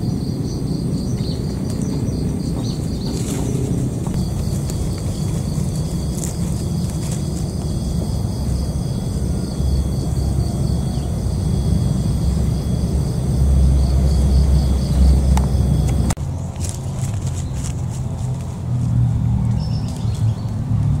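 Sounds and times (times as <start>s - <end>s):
insects chirping: 0.0s - 21.0s
low rumble: 0.0s - 21.0s.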